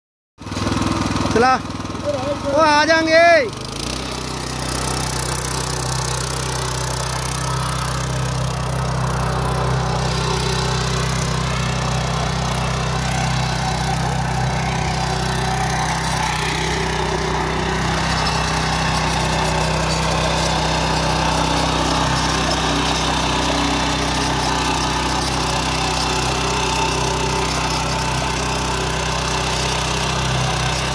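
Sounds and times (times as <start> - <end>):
power tiller engine running: 0.4 - 30.9.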